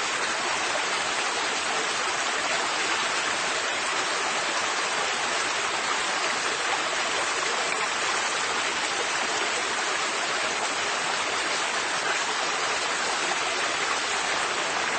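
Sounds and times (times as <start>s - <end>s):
river water rushing: 0.0s - 14.9s.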